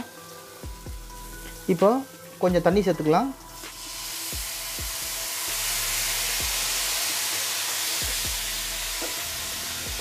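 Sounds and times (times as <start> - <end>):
water sizzling in hot pan: 0.0 - 10.0.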